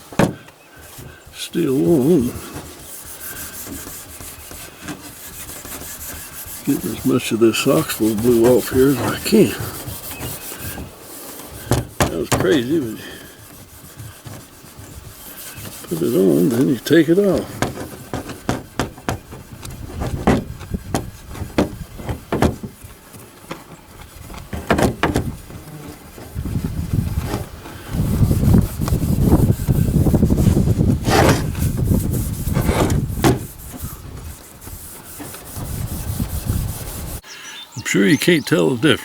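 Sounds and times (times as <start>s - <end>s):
knocks and scrapes: 0.0s - 37.2s
low rumbling handling noise: 0.0s - 37.2s
hand scrubbing on metal: 0.7s - 39.0s.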